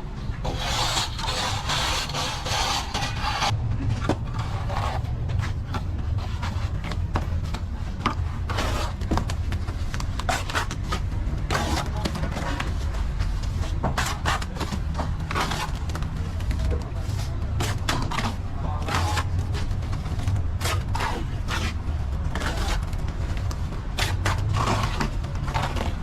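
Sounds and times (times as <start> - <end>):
hand tools scraping hard surface: 0.4 - 7.3, 8.0 - 9.2, 10.2 - 23.0, 24.0 - 26.0
steady low rumble: 2.9 - 26.0.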